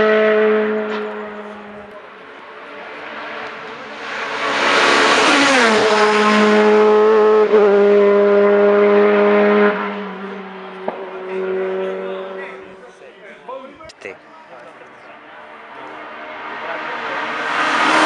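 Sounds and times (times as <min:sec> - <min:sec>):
race car engine passing: 0:00.0 - 0:13.2, 0:14.4 - 0:18.0.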